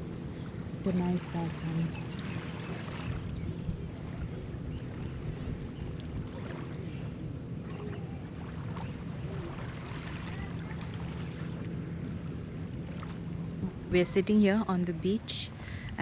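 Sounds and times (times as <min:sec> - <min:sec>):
boat engine humming: 0:00.0 - 0:16.0
water lapping: 0:00.0 - 0:16.0
wind: 0:00.0 - 0:16.0.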